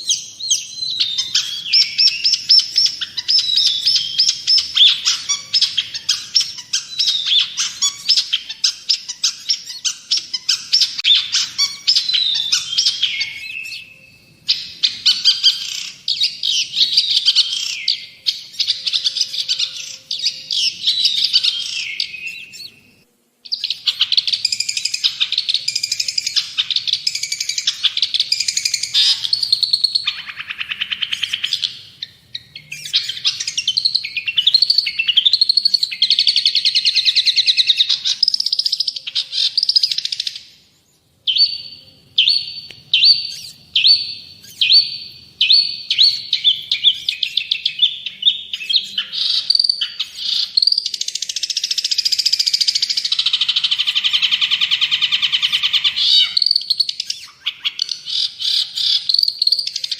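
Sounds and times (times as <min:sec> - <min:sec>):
bird singing warble: 0:00.0 - 0:59.9.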